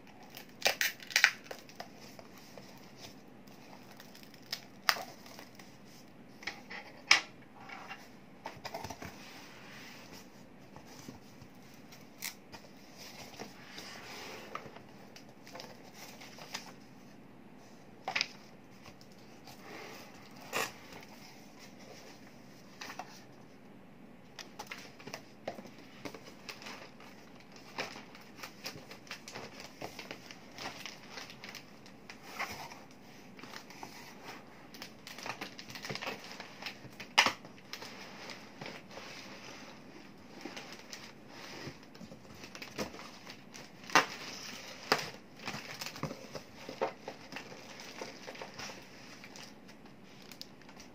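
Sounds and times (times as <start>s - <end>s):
cardboard and plastic packaging rustling: 0.0s - 17.2s, 18.0s - 23.4s, 24.3s - 50.9s.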